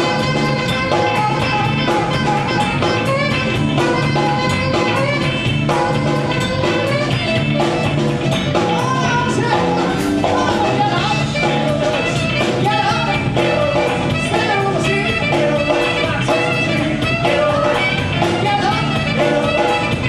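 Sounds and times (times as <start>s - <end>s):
drums keeping a steady beat: 0.0s - 20.0s
live band playing: 0.0s - 20.0s
singing voice or lead instrument: 0.0s - 20.0s.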